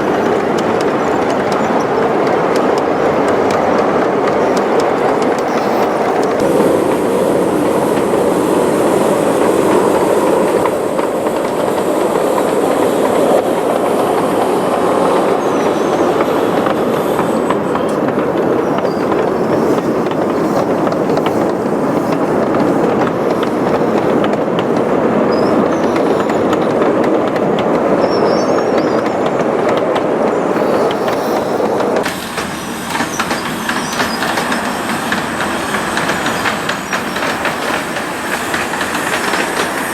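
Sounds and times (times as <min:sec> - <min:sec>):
train wheels clattering on rail: 0:00.0 - 0:39.9.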